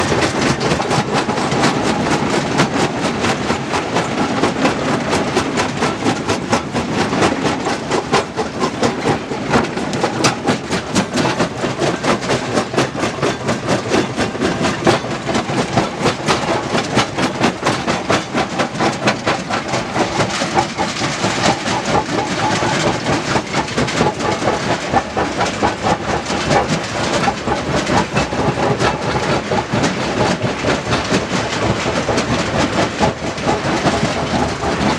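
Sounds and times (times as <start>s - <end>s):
clatter of rapid irregular knocks: 0.0s - 34.9s.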